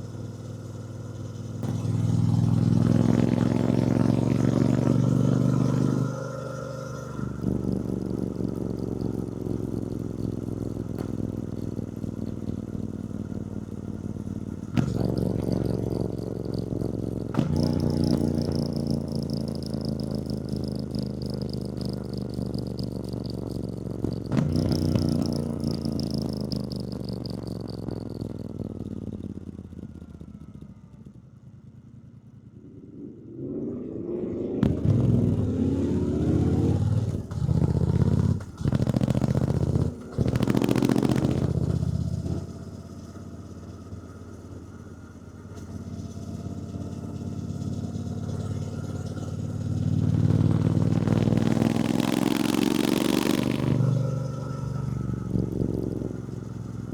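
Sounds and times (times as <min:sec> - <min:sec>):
motorcycle engine: 0:00.0 - 0:56.9.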